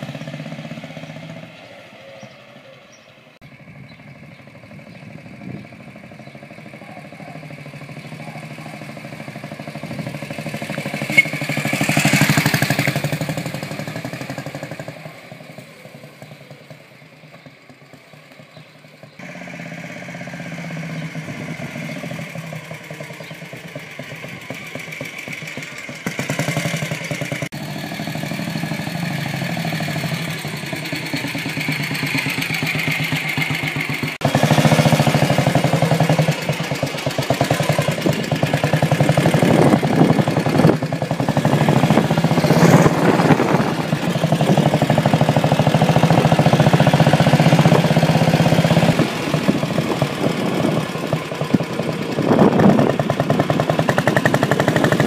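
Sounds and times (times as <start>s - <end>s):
motorcycle engine running: 0.0s - 2.4s, 3.0s - 55.0s.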